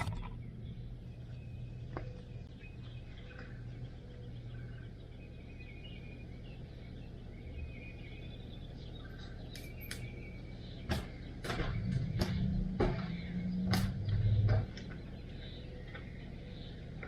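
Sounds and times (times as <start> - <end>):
steady low hum: 0.0 - 17.0
nestlings begging chirps: 0.1 - 17.0.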